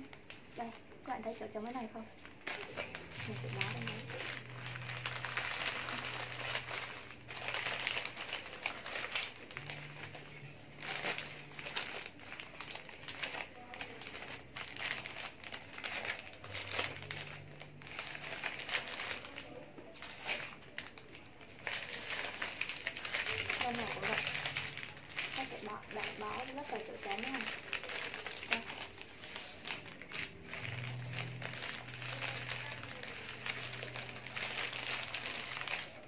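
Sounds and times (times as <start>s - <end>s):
wrapping paper crinkling: 0.0s - 36.0s.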